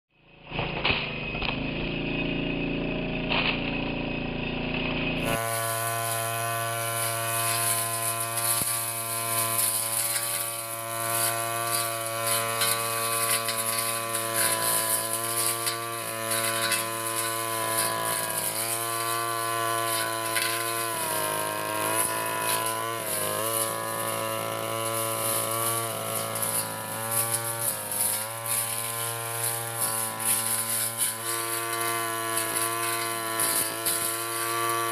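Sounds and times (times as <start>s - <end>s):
brush cutter engine buzzing: 0.2s - 34.9s.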